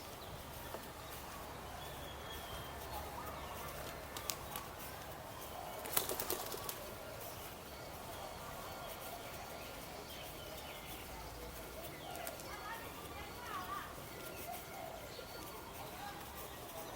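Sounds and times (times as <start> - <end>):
birds calling: 0.0 - 16.9
outdoor background noise: 0.0 - 16.9.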